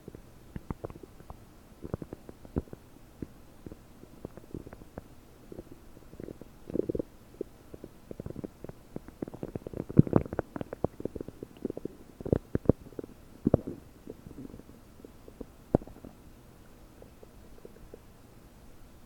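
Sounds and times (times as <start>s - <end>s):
stomach gurgling and popping: 0.0s - 16.3s, 16.9s - 18.1s.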